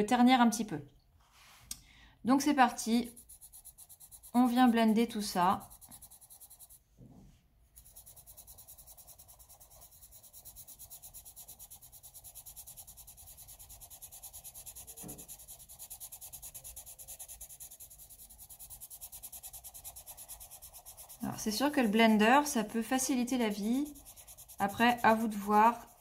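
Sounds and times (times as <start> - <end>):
pencil rubbing on paper: 2.4 - 6.8, 7.7 - 26.0.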